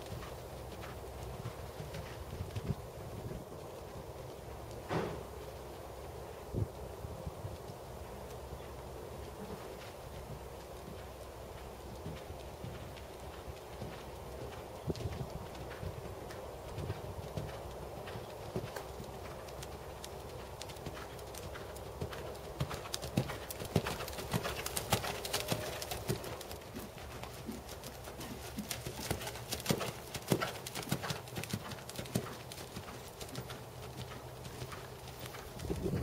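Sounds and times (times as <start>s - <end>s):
horse hoofbeats on dirt: 0.0s - 36.0s.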